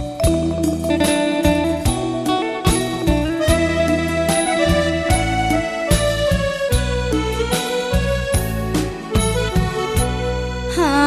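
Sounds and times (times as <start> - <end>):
instrumental song with bass and beat: 0.0 - 11.0.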